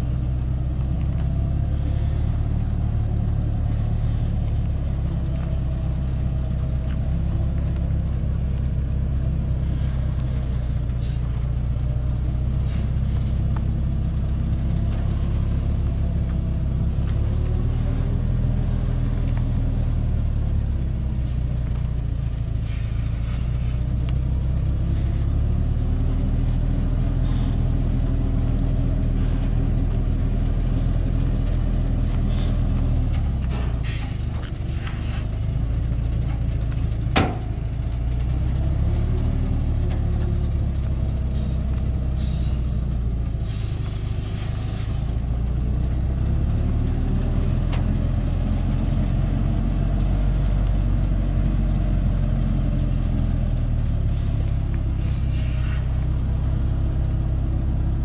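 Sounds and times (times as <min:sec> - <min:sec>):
truck engine rumbling under load: 0:00.0 - 0:58.0.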